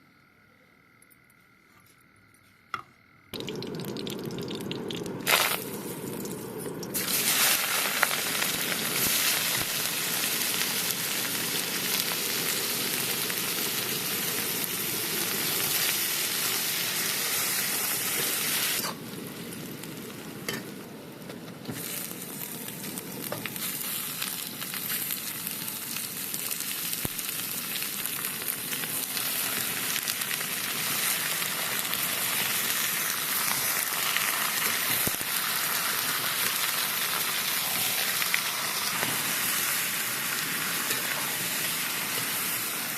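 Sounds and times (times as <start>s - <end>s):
food sizzling in hot oil: 3.4s - 42.9s.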